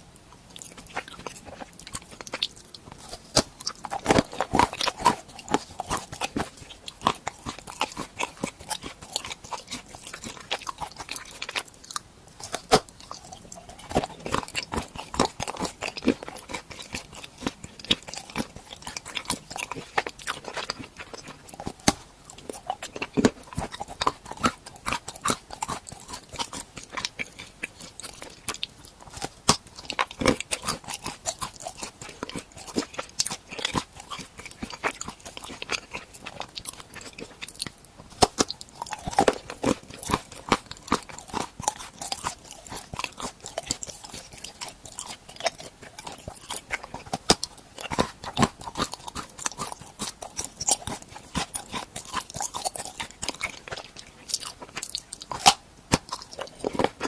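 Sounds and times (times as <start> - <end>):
person crunching snacks: 0.0 - 57.0.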